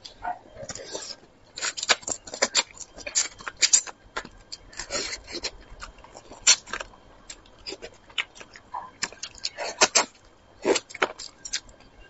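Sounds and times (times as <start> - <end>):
wet chewing and lip smacking: 0.0 - 11.9.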